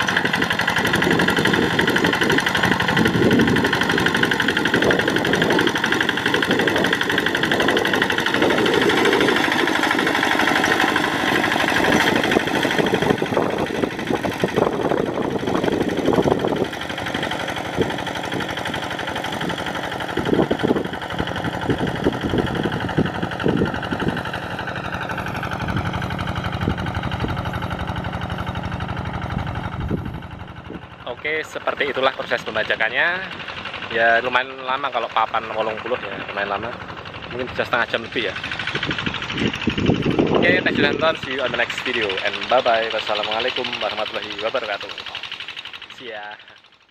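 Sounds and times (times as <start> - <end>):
diesel hand tractor running: 0.0 - 46.9.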